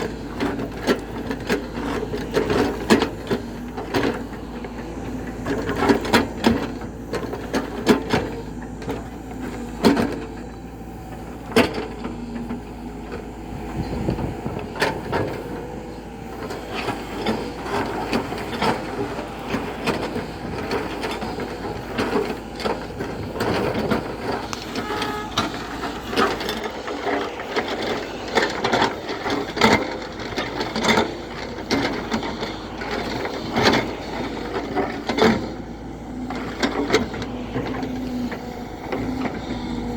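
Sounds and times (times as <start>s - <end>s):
backhoe loader engine running: 0.0s - 39.9s.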